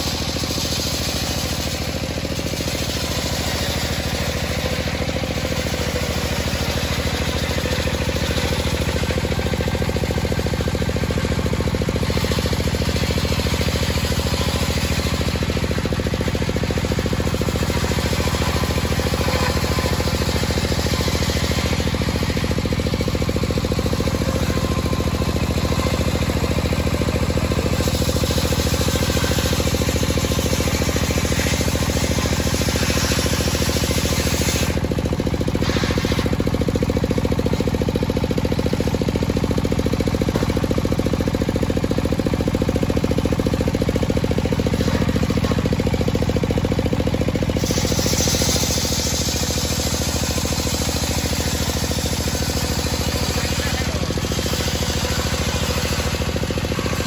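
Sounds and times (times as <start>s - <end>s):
machine drone: 0.0s - 42.7s, 43.3s - 57.0s
circular saw cutting log: 0.0s - 57.0s.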